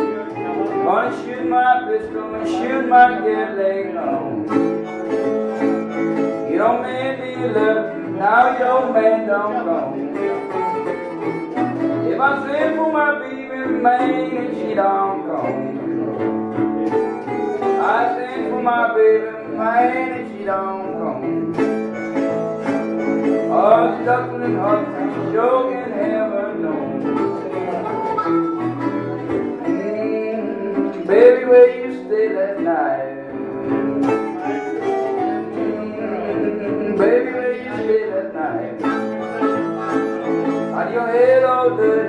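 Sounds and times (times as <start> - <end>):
harmonica bending notes: 0.0 - 31.8, 33.1 - 42.0
resonator guitar picking: 0.0 - 42.0.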